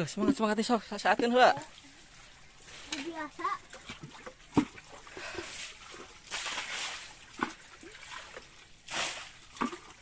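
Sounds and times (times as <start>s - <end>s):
muddy water splashing: 0.0s - 10.0s.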